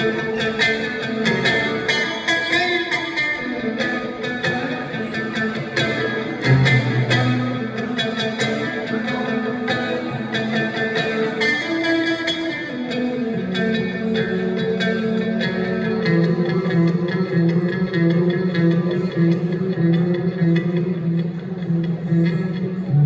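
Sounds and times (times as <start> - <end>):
electric guitar lead notes: 0.0 - 23.0
guitar and bass backing: 0.0 - 23.0.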